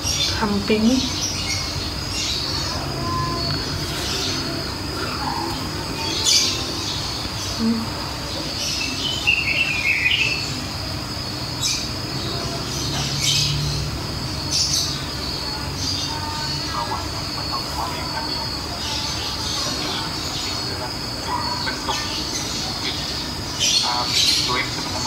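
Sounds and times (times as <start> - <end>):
steady high drone: 0.0 - 25.0.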